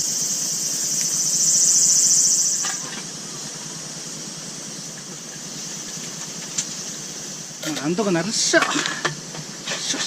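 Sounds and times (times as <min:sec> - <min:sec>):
insects buzzing: 0:00.0 - 0:10.0.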